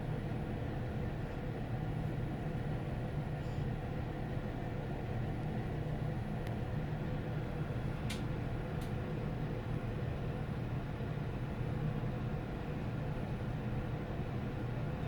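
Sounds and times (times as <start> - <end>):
elevator hum and rumble: 0.0 - 15.0.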